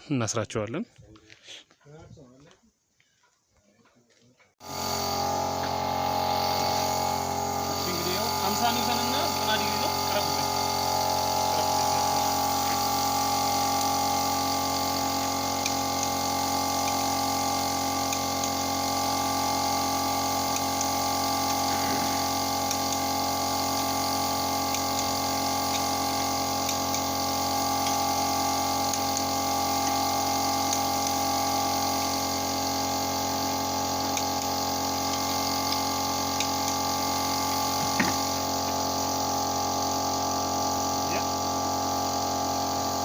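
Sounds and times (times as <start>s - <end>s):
machine hum: 4.6s - 43.0s.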